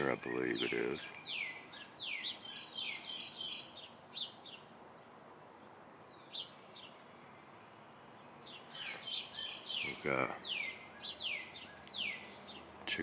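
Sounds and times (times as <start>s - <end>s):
faint outdoor background noise: 0.0s - 13.0s
small birds chirping: 0.0s - 13.0s.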